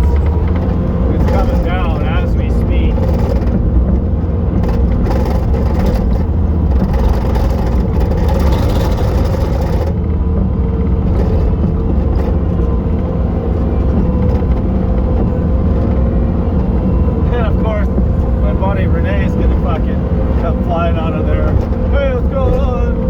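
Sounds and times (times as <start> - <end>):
diesel engine running loud: 0.0 - 23.0.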